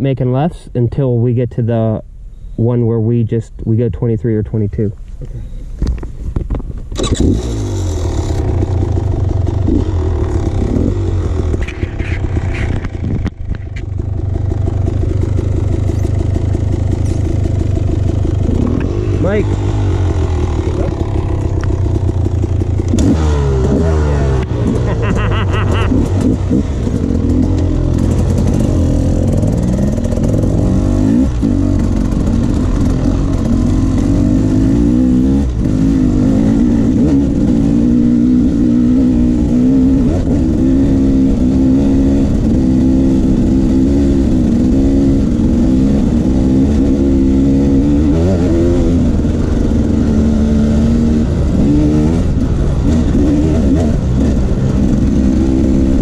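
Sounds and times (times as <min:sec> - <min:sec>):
motorcycle engine revving: 0:06.2 - 0:56.0.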